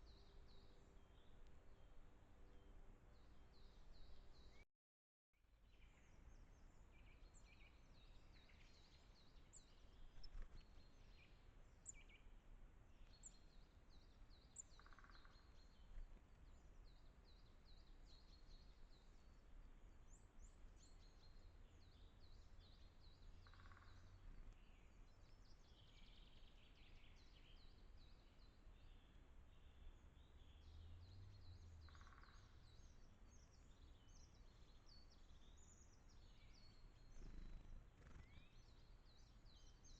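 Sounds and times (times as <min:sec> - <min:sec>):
songbirds chirping: 0:00.0 - 0:04.6, 0:05.4 - 0:39.9.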